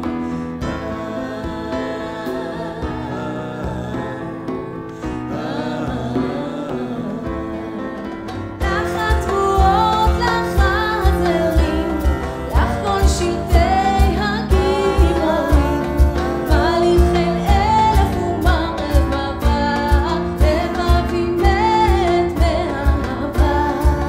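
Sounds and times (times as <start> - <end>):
keyboard accompaniment: 0.0 - 24.0
woman singing: 0.0 - 24.0.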